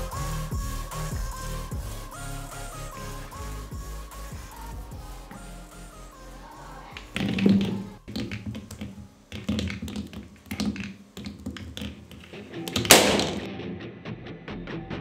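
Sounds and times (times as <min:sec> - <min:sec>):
background music: 0:00.0 - 0:09.8, 0:12.2 - 0:15.0.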